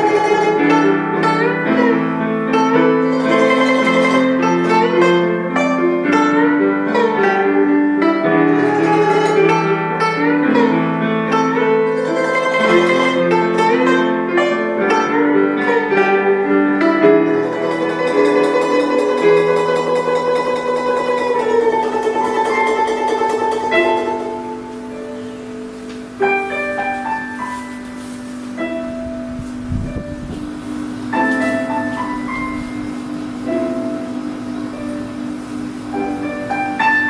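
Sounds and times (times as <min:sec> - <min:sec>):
plucked zither melody: 0:00.0 - 0:37.0.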